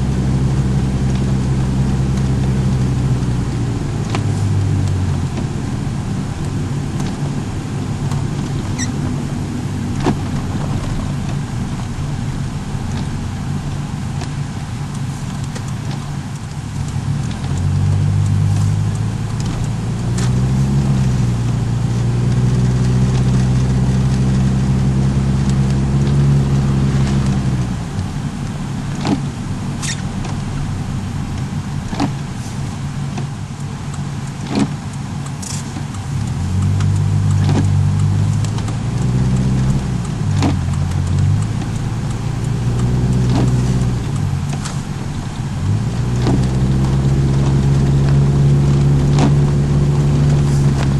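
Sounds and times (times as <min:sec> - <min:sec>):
car engine accelerating: 0:00.0 - 0:50.9.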